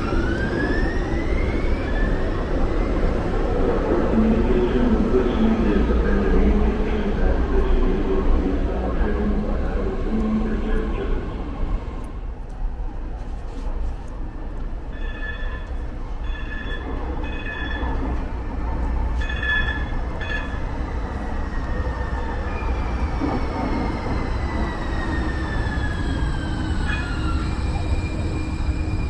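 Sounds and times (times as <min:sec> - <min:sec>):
light-rail car rumbling in tunnel: 0:00.0 - 0:29.0.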